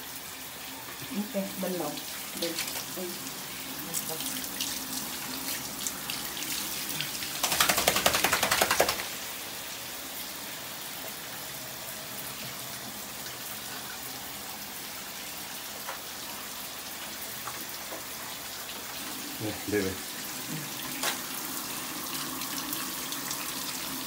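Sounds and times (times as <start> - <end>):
shower water spraying: 0.0 - 24.0.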